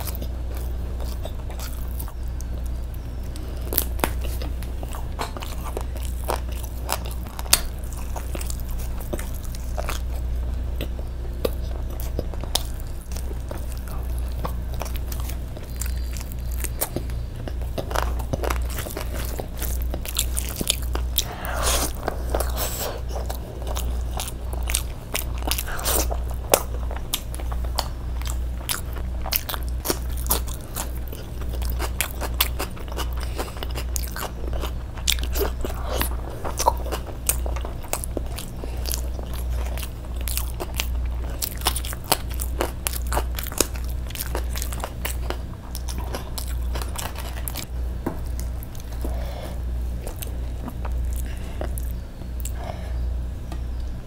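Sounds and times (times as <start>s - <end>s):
low hum: 0.0s - 54.0s
person chewing food: 0.0s - 54.0s.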